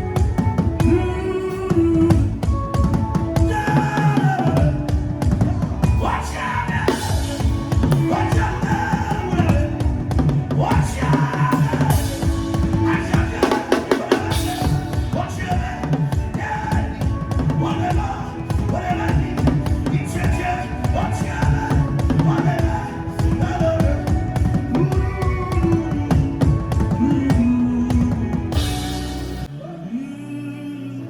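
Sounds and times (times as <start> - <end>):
drum kit fast busy beat: 0.0 - 29.5
gliding melodic voices: 0.0 - 31.0.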